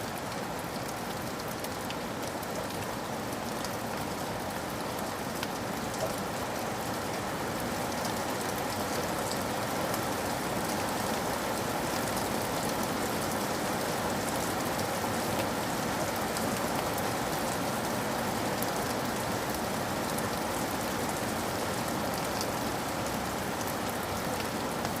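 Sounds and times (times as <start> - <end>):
rain pattering on a surface: 0.0 - 25.0.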